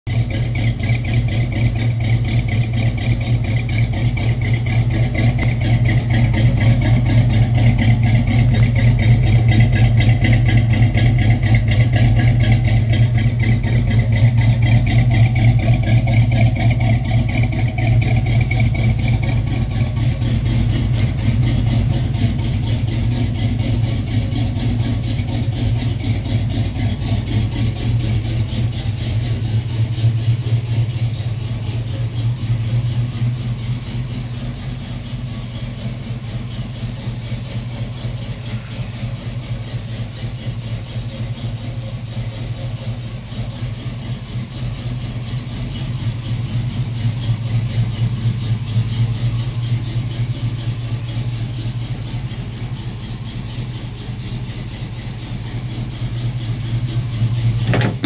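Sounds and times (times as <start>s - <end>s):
pickup engine idling: 0.0s - 58.0s.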